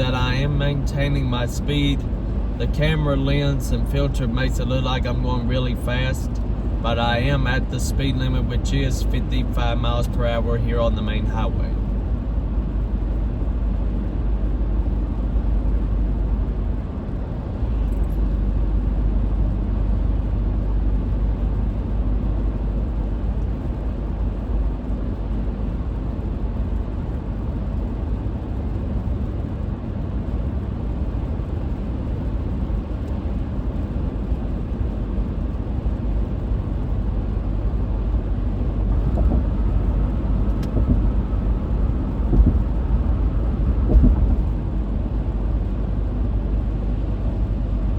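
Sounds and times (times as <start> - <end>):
car tyre and engine rumble: 0.0 - 47.9.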